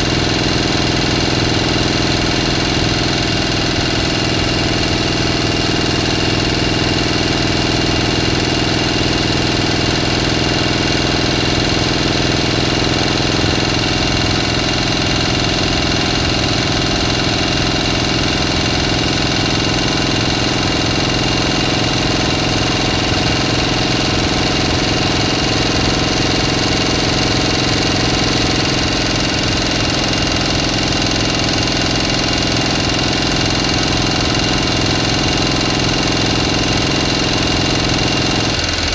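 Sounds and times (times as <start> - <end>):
motor running steadily: 0.0 - 38.9.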